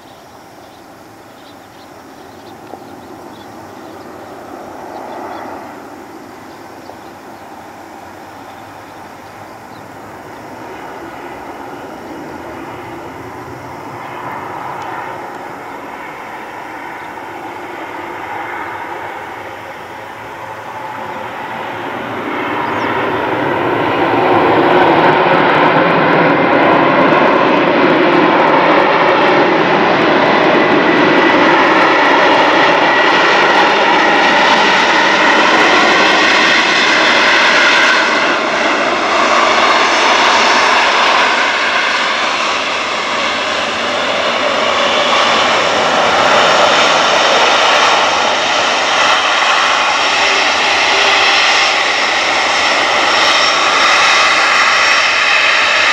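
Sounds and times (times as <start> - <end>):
jet engines roaring with whine: 0.0 - 55.9.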